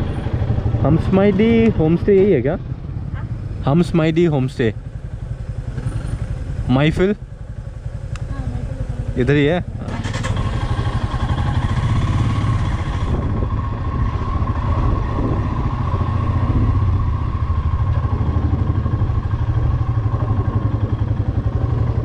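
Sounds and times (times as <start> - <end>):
motorcycle engine running slowly: 0.0 - 22.0.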